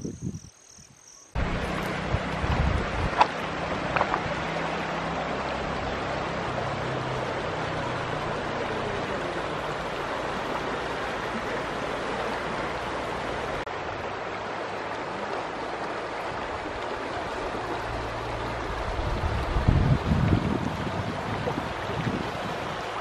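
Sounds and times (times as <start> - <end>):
river rushing over stones: 1.4 - 23.0.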